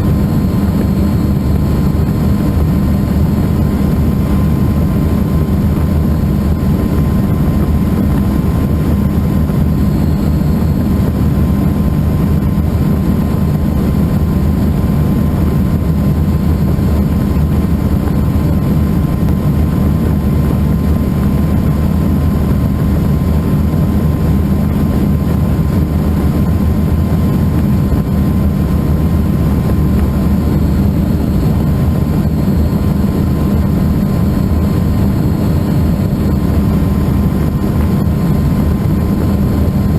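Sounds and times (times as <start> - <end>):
helicopter engine and rotor drone: 0.0 - 39.9
thin turbine whine: 0.0 - 39.9.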